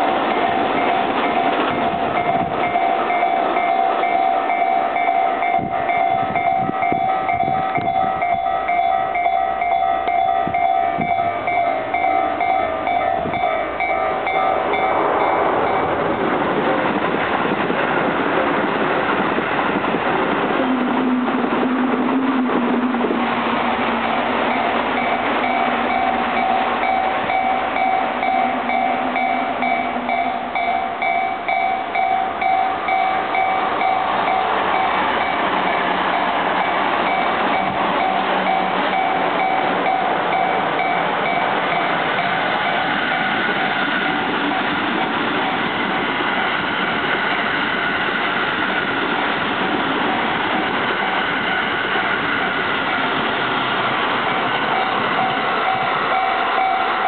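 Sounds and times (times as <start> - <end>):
level-crossing warning bell: 0.0 - 16.2, 22.8 - 57.0
passing train rushing noise: 0.0 - 57.0.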